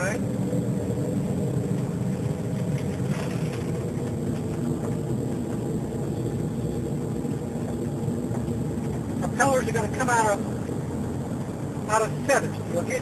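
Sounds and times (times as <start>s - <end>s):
propeller airplane engines droning: 0.0s - 13.0s.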